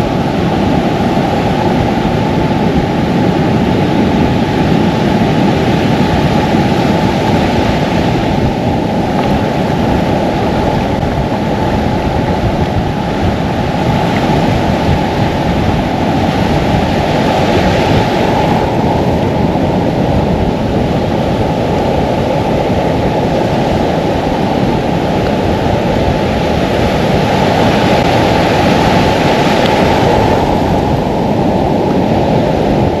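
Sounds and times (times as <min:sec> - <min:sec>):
surf washing along shore: 0:00.0 - 0:33.0
wind on microphone: 0:00.0 - 0:33.0.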